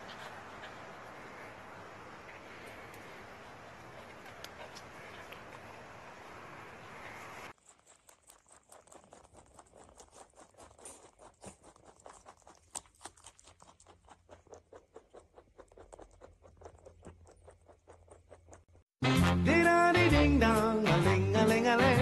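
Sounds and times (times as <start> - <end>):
rabbit chewing crunchily: 0.0 - 19.0.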